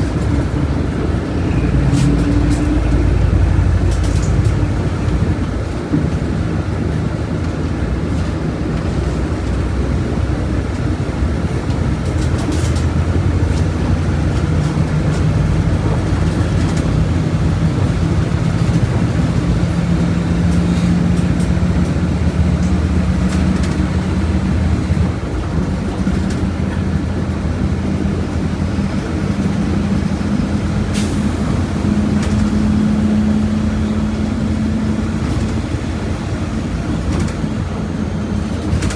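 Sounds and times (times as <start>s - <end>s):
diesel bus engine under load: 0.0s - 38.9s.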